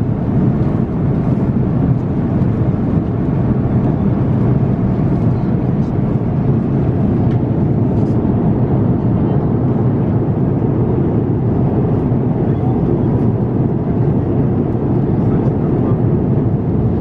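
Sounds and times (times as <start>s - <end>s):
airplane cabin engine hum: 0.0s - 17.0s.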